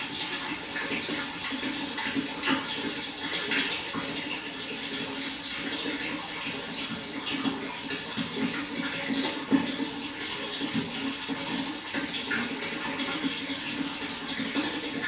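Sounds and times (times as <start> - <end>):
water flowing: 0.0 - 15.0.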